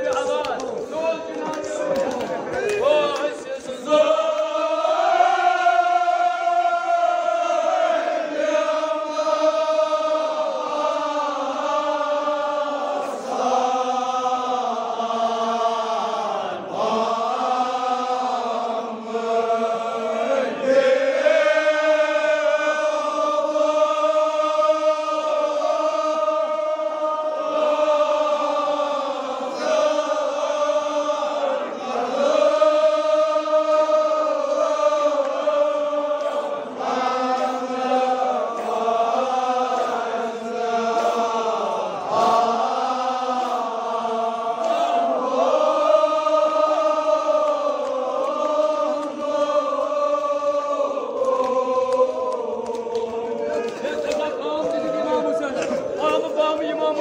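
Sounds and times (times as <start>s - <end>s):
men chanting together: 0.0s - 57.0s.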